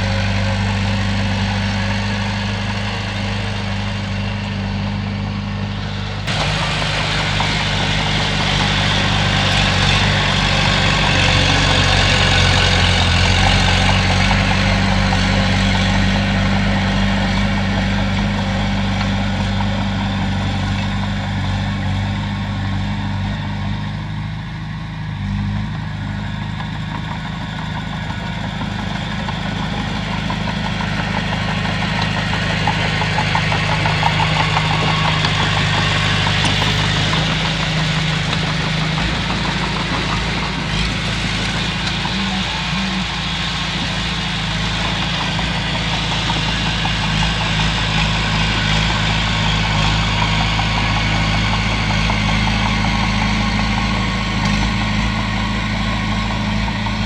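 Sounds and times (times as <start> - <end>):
bulldozer diesel engine running: 0.0 - 57.0
engine clatter and hiss: 0.0 - 57.0.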